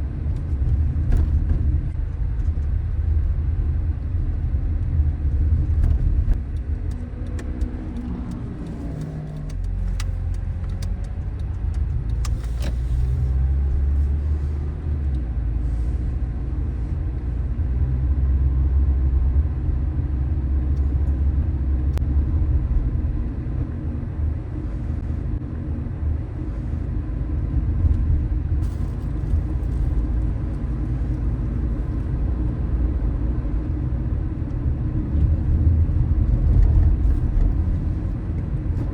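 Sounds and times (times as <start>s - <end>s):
car engine rumbling: 0.0s - 38.9s
tyres on road: 0.0s - 38.9s.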